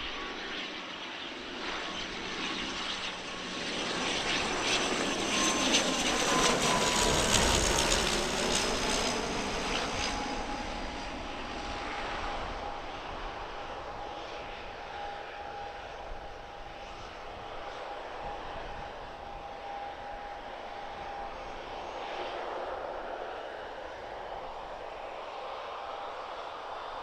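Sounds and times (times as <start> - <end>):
airliner engines passing: 0.0 - 27.0.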